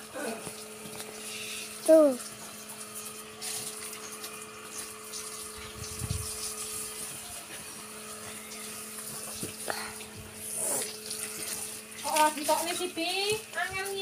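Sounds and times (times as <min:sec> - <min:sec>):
water running through a hose: 0:00.0 - 0:14.0.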